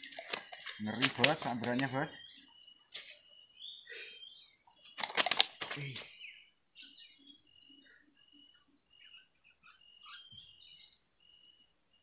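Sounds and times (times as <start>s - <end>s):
birds chirping and whistling: 0.0s - 11.8s.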